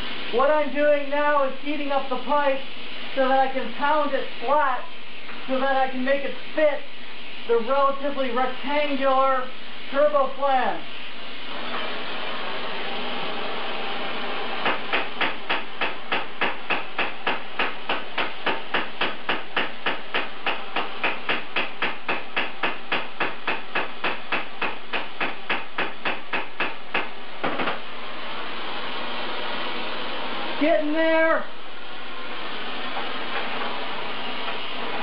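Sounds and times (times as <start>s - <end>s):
torch flame hissing: 0.0s - 35.0s.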